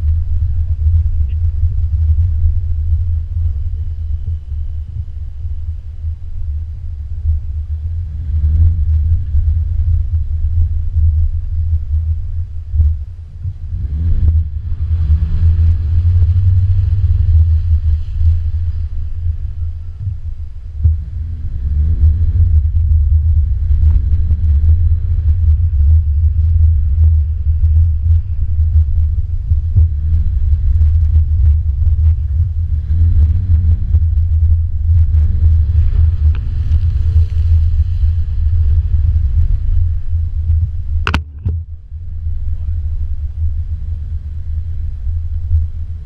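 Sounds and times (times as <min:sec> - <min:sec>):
low rumble: 0:00.0 - 0:46.0
car engine revving: 0:07.7 - 0:46.0.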